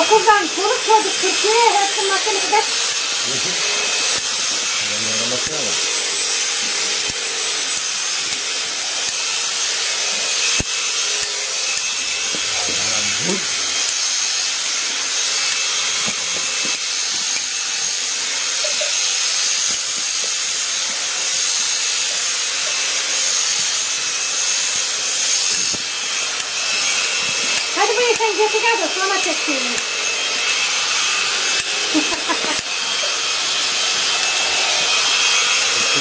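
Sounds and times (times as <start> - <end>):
shears cutting wool: 0.0 - 36.0.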